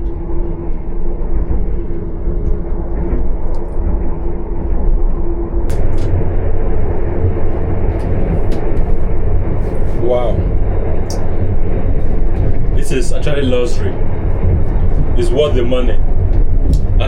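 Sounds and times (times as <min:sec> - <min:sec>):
faint steady hum: 0:00.0 - 0:17.0
train cabin rumble: 0:00.0 - 0:17.0.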